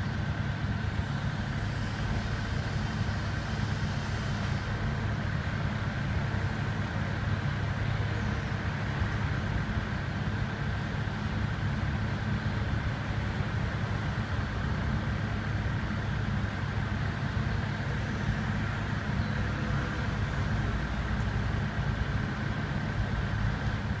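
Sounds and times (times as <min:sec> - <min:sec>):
city road traffic rumble: 0:00.0 - 0:24.0.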